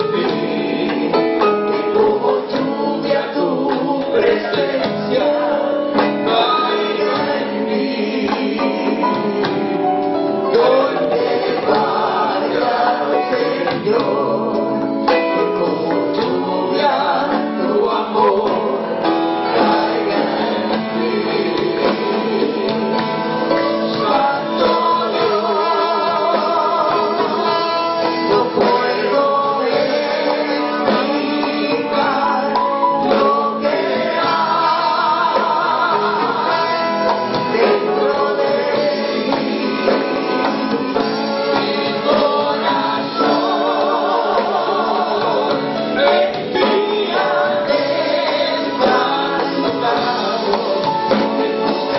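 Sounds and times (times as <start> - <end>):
percussion with steady beat: 0.0 - 51.9
voices singing together: 0.0 - 51.9.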